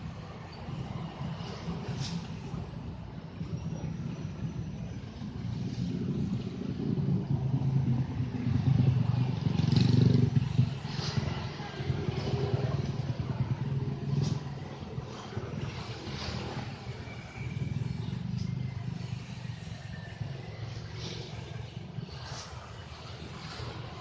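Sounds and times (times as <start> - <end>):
diesel locomotive rumbling: 0.0 - 24.0.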